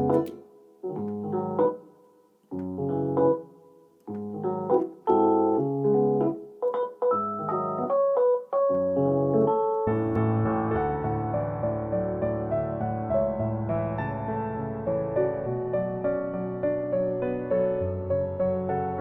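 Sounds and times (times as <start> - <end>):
piano-like keyboard music: 0.0 - 19.0.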